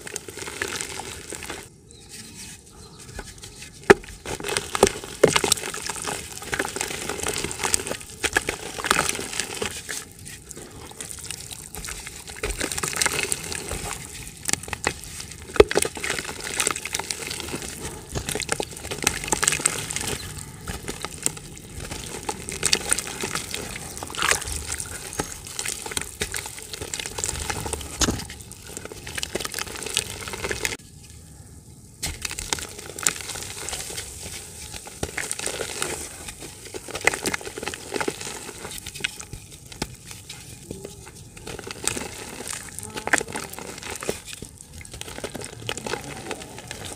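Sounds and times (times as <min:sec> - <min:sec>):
dirt chunks crumbling by hand: 0:00.0 - 0:01.7, 0:02.3 - 0:30.8, 0:32.0 - 0:46.9
crumbs dropping into water: 0:03.8 - 0:30.8, 0:32.0 - 0:46.9.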